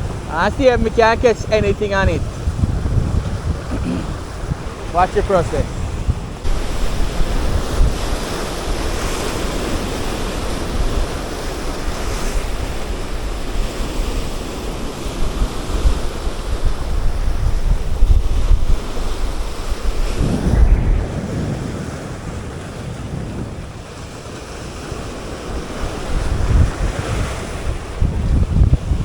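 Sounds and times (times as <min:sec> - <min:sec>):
sea surf washing: 0:00.0 - 0:29.0
wind buffeting microphone: 0:00.0 - 0:29.0.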